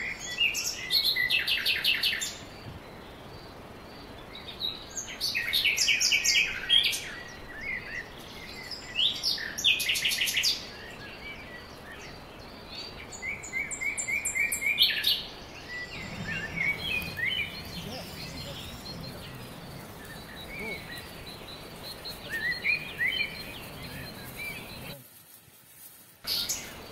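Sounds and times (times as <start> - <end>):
outdoor hiss: 0.0 - 26.9
small birds chirping and trilling: 0.0 - 26.9.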